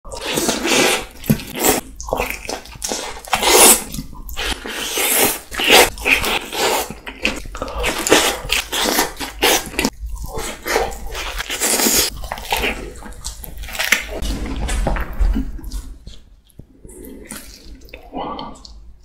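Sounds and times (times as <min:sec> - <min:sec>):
biting and chewing pizza: 0:00.1 - 0:18.8.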